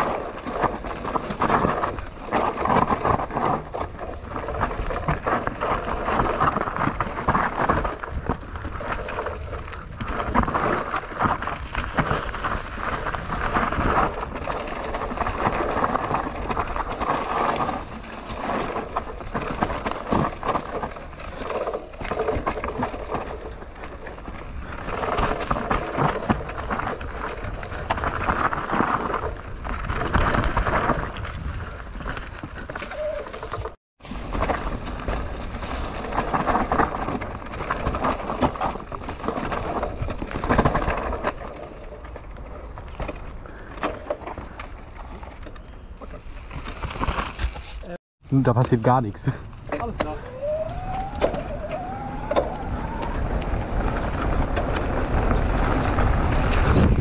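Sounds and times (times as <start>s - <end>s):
bike rattling over bumps: 0.0s - 48.0s, 48.6s - 57.0s
bike tyres crunching over leaves: 0.0s - 48.0s, 48.9s - 57.0s.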